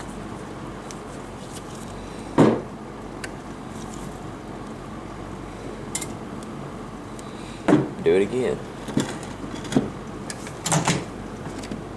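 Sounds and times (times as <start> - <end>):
steady hum: 0.0 - 11.9.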